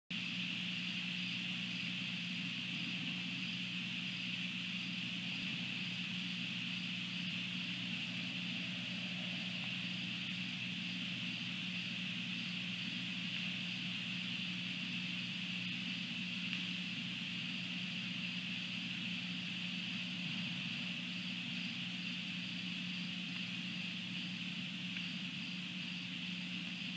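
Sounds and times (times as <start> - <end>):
constant low hum: 0.1 - 26.9
high-pitched hiss: 0.1 - 26.9
faint high pulsing: 0.2 - 26.9.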